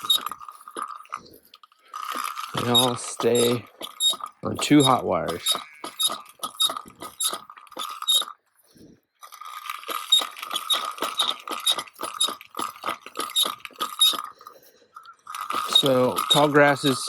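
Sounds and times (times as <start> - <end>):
wire reel spool squeaking and clicking: 0.0 - 17.0.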